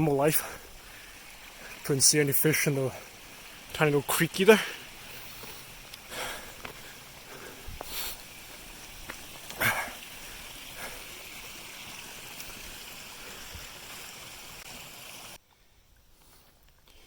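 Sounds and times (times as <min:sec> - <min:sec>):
creek trickling: 0:00.0 - 0:16.1.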